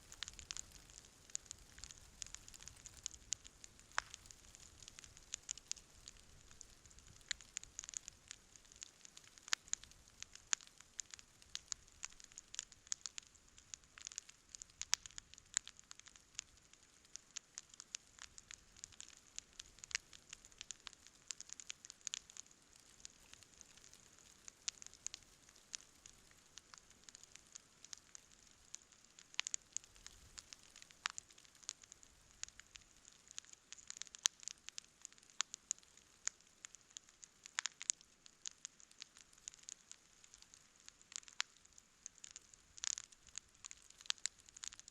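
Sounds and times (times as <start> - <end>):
campfire crackling and popping: 0.0 - 44.9
faint steady hiss: 0.0 - 44.9.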